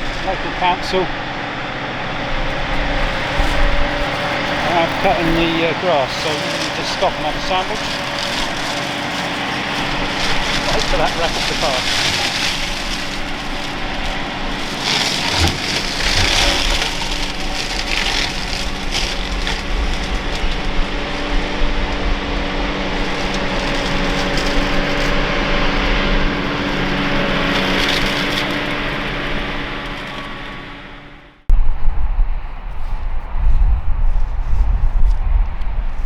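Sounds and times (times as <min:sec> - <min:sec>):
grass cutting machine engine running: 0:00.0 - 0:31.4.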